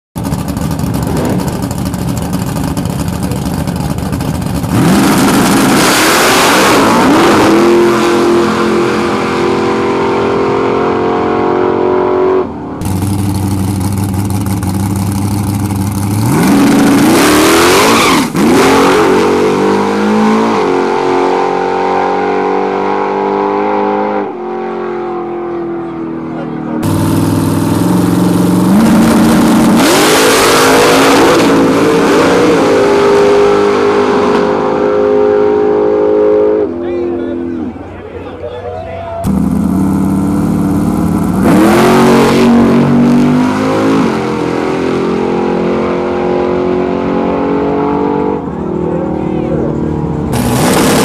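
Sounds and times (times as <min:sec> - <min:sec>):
race car engine revving: 0:00.2 - 0:38.4, 0:39.2 - 0:51.0.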